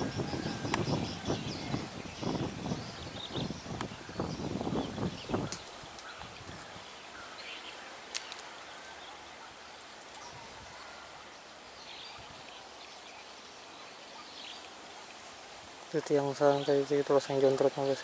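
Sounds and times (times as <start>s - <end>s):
high insect whine: 0.0s - 18.0s.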